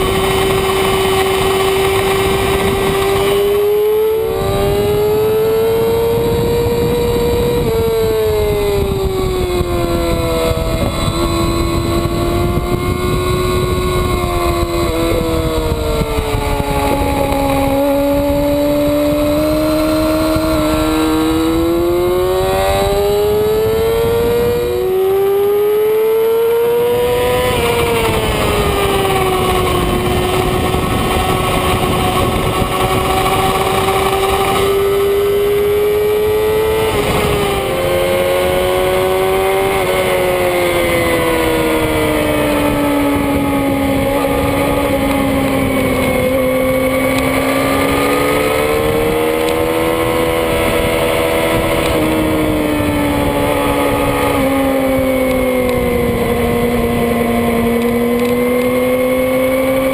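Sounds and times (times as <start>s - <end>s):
motorcycle engine at high revs: 0.0s - 59.9s
wind rush: 0.0s - 59.9s.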